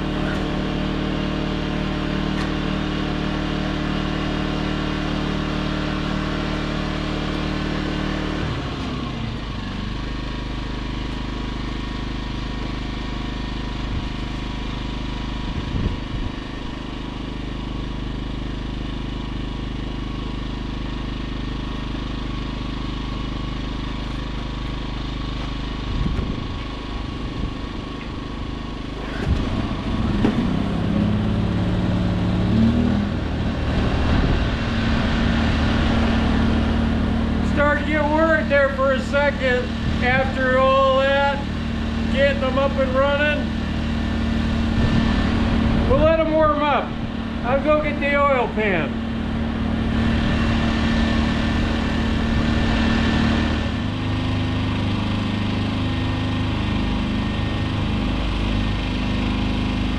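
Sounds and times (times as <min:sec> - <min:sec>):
generators running: 0:00.0 - 0:59.9.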